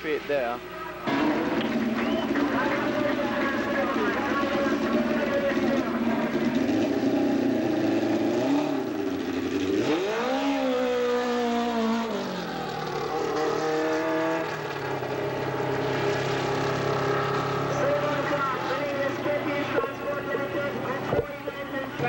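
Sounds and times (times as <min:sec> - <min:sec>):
racing car engine accelerating: 0:01.0 - 0:21.2.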